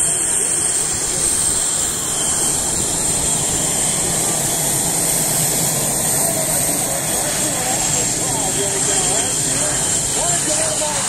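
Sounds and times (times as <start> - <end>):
jet engines whining while taxiing: 0.0 - 11.0.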